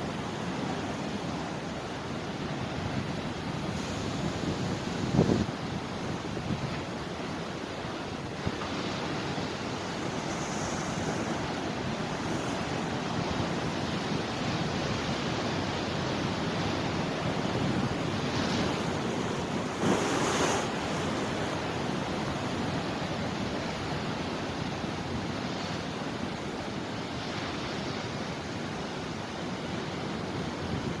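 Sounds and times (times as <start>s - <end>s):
sea waves breaking: 0.0s - 31.0s.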